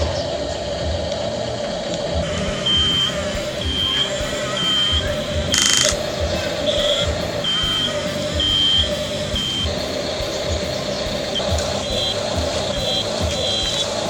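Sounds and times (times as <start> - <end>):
reversing warning beeper: 2.2 - 14.0.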